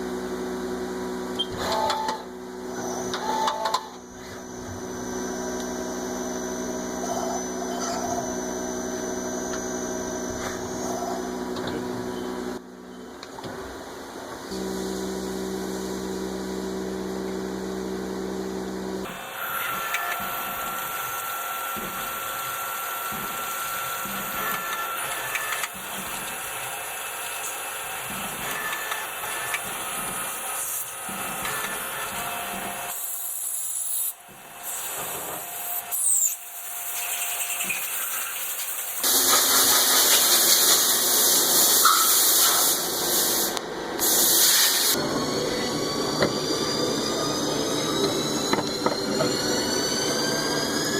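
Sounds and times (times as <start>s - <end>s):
machine tool motor running: 1.3s - 12.6s, 14.5s - 50.9s.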